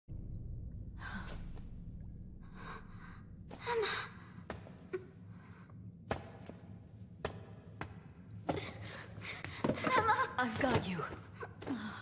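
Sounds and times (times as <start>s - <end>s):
steady low hum: 0.1s - 10.4s.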